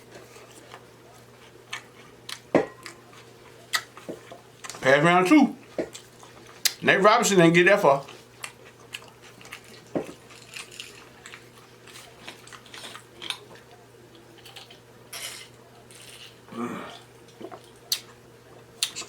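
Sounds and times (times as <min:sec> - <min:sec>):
crunching while eating: 0:00.0 - 0:04.8, 0:08.0 - 0:19.0.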